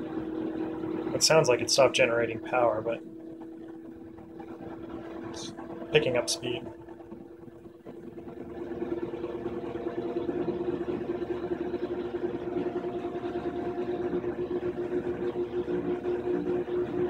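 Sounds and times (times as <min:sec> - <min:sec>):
washing machine spin hum: 0:00.0 - 0:17.0.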